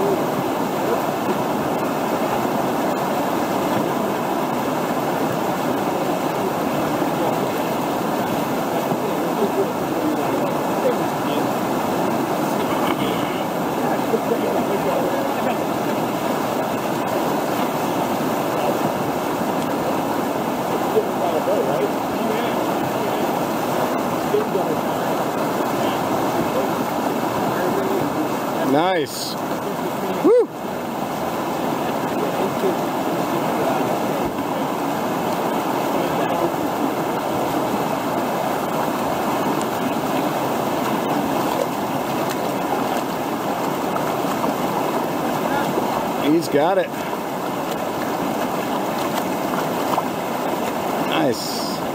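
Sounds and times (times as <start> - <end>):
whitewater rushing over rocks: 0.0 - 51.9.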